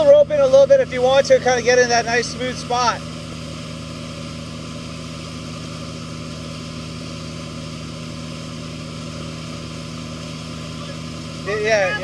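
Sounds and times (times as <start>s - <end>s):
boat engine drone: 0.0s - 12.0s
churning wake water hiss: 0.0s - 12.0s.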